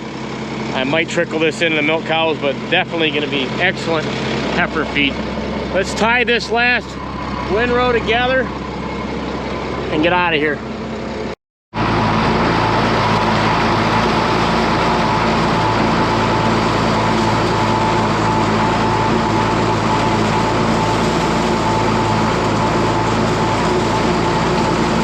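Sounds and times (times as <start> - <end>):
steady whine: 0.0 - 25.0
tractor engine running: 0.0 - 25.0.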